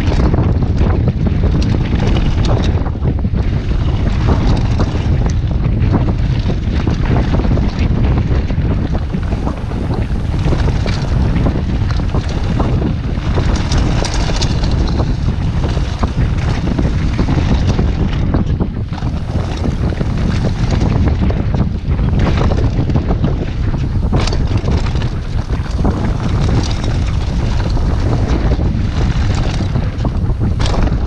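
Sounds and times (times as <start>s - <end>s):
bike rattling over bumps: 0.0s - 31.0s
wind buffeting microphone: 0.0s - 31.0s.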